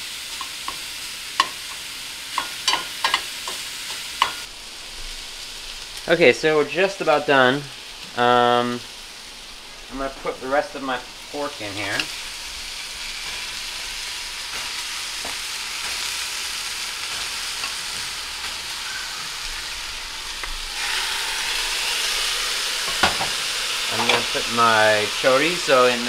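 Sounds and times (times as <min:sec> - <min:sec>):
sausage sizzling in skillet: 0:00.0 - 0:26.0.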